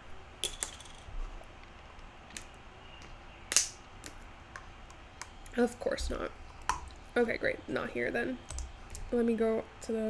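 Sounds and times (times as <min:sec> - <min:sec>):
faint room hiss: 0:00.0 - 0:10.0.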